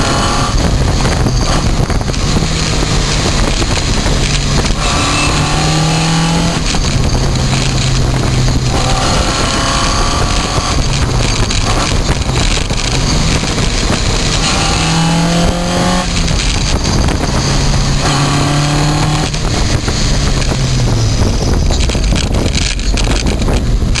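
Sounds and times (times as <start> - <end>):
road and wind noise: 0.0 - 24.0
transmission gear whine: 0.0 - 24.0
vehicle engine: 0.0 - 24.0.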